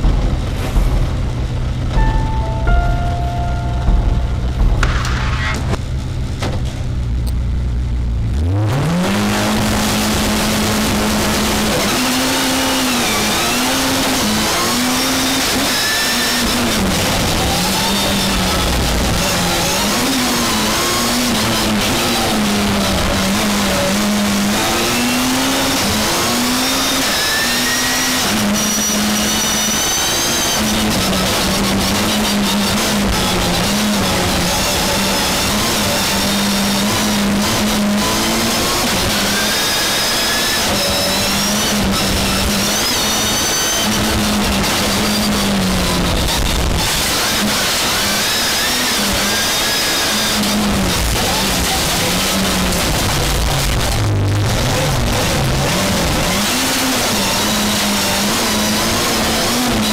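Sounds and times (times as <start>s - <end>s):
race car engine revving: 4.6s - 59.9s.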